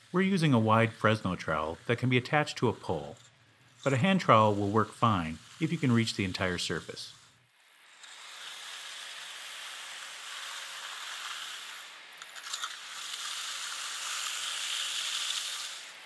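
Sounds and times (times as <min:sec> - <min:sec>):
trowel scraping across concrete: 0:00.0 - 0:16.0.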